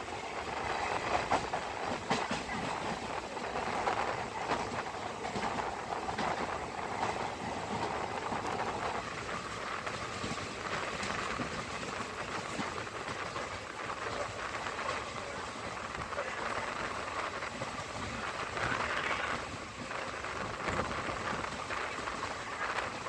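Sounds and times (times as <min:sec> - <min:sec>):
train wheels rushing on rail: 0:00.0 - 0:23.0.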